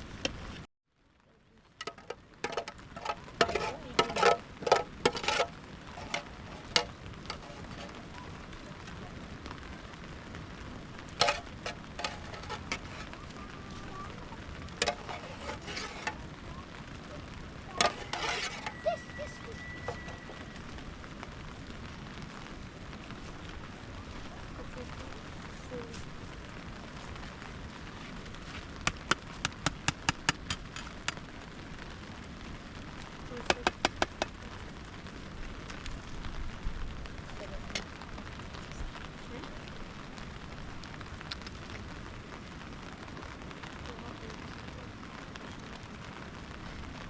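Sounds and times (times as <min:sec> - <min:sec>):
rain hissing: 0:00.0 - 0:00.7, 0:01.3 - 0:47.0
wood fire crackling: 0:00.0 - 0:47.0.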